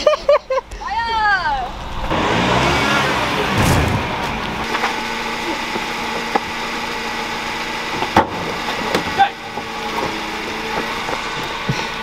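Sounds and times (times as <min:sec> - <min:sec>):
car engine idling: 0:00.4 - 0:12.0.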